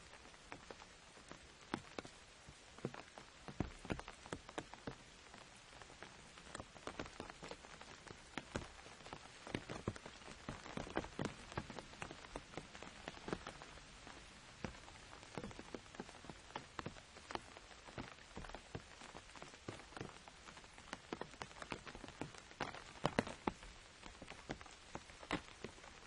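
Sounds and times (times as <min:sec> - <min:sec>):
rain on an umbrella: 0:00.0 - 0:26.0.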